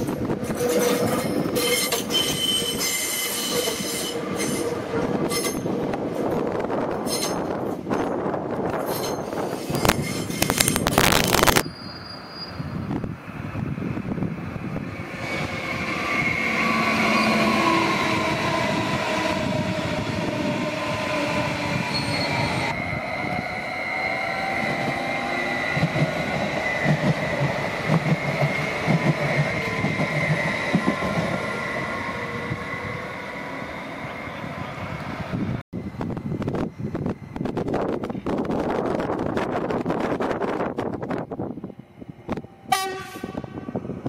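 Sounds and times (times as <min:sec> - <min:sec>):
wheels squealing on rails: 0:00.0 - 0:08.0, 0:08.7 - 0:40.6
train rolling past: 0:00.0 - 0:44.0.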